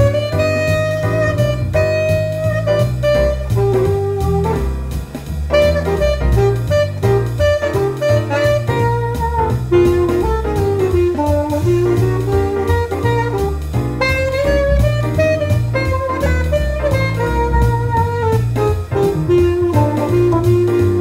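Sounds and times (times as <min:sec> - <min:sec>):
guitar bass and drums backing: 0:00.0 - 0:21.0
tenor saxophone swing line: 0:00.0 - 0:21.0.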